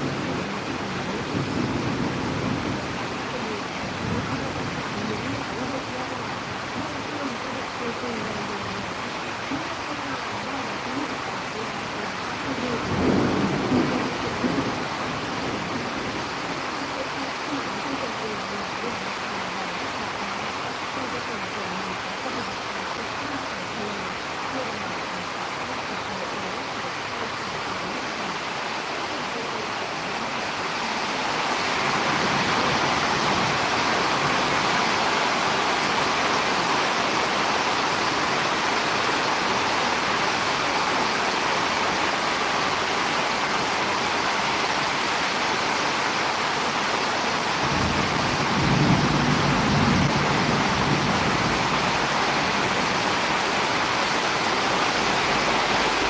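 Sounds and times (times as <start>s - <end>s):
storm wind and rain: 0.0s - 56.0s.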